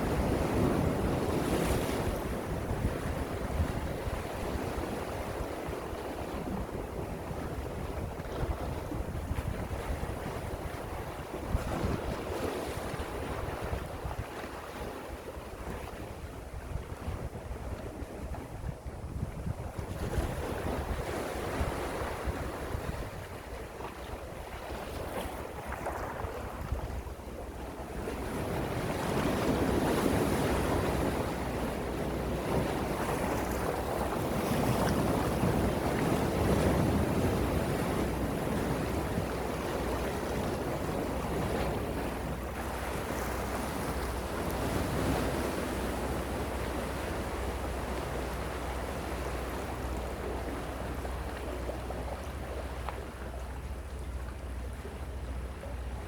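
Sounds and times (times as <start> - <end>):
sea waves washing in: 0.0 - 56.0.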